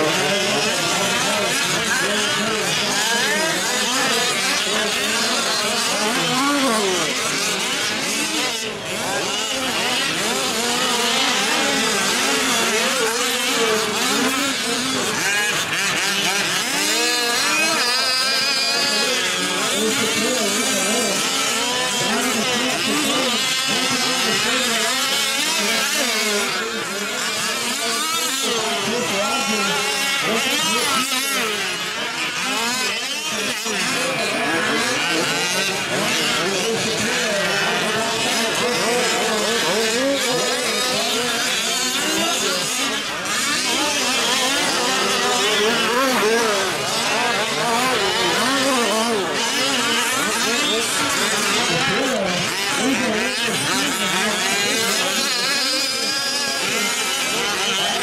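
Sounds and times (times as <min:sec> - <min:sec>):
small two-stroke engines revving: 0:00.0 - 0:58.0.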